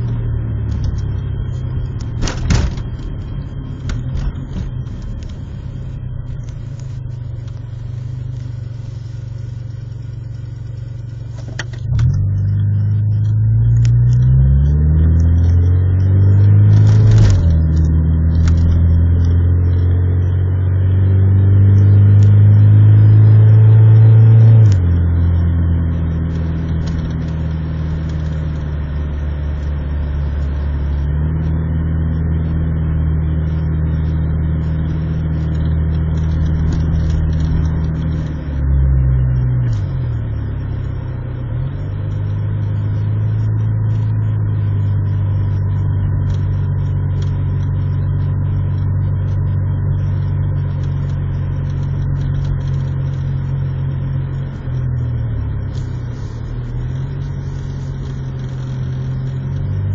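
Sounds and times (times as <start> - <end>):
car engine hum: 0.0 - 59.9
road noise: 0.0 - 59.9.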